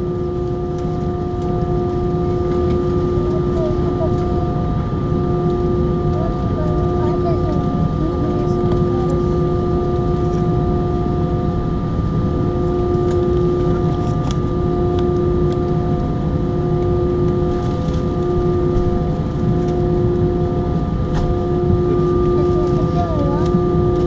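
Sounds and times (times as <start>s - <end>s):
jet engines heard from cabin: 0.0s - 24.0s.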